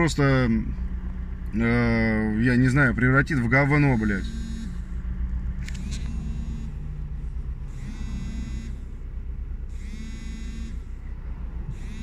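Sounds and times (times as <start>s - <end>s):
car cabin low rumble: 0.0s - 12.0s.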